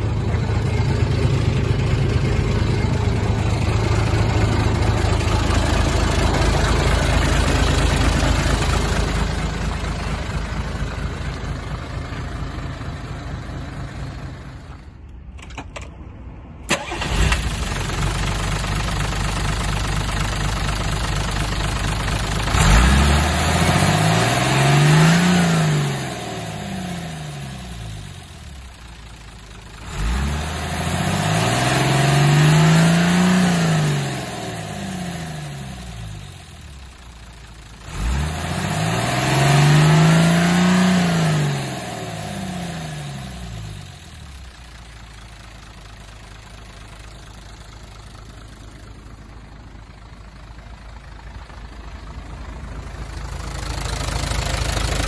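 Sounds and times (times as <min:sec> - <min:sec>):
diesel truck engine idling and revving: 0:00.0 - 0:55.0.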